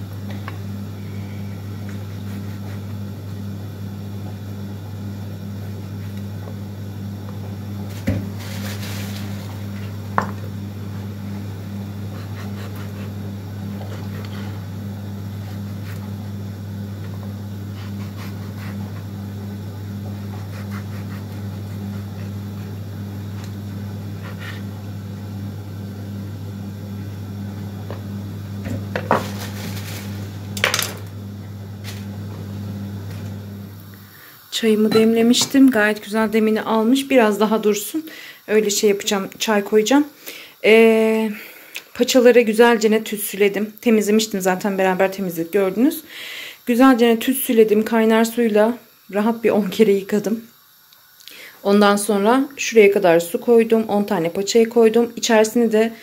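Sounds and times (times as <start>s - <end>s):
steady low hum: 0.0s - 50.5s.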